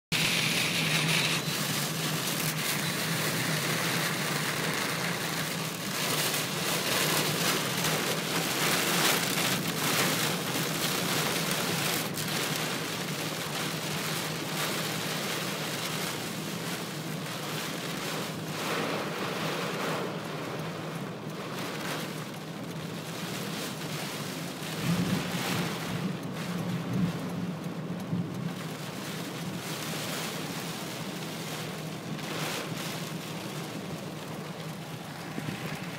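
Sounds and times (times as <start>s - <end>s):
engine and tyres humming: 0.1s - 35.9s
heavy rain on car windshield: 0.1s - 35.9s.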